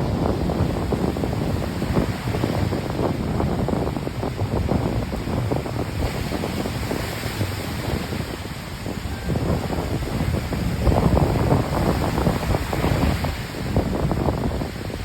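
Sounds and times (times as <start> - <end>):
waves washing on beach: 0.0 - 15.0
wind buffeting microphone: 0.0 - 15.0.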